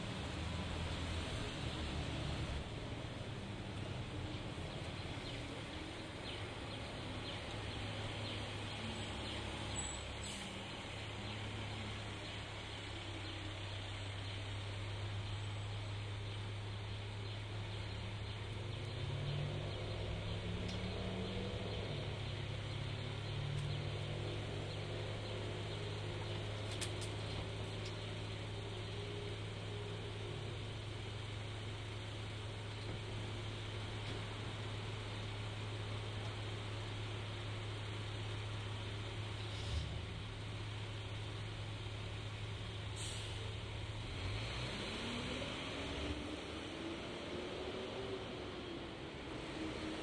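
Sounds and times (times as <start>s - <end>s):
street noise: 0.0s - 50.0s.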